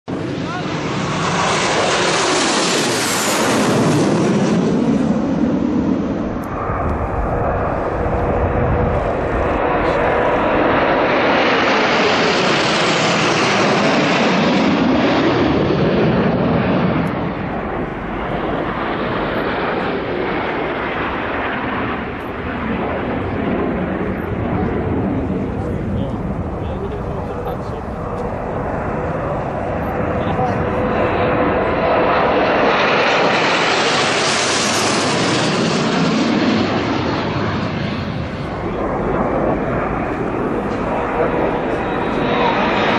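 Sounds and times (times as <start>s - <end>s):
jets flying past: 0.1s - 42.9s.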